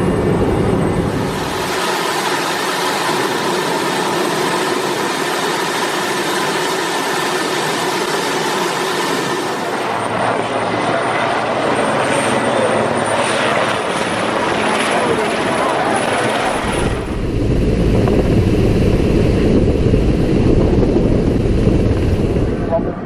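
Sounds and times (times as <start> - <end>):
helicopter engines and rotor: 0.0 - 23.0
high turbine whine: 0.0 - 23.0.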